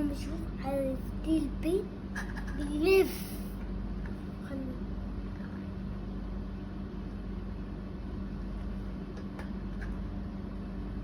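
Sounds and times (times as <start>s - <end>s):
electric appliance humming: 0.0s - 11.0s.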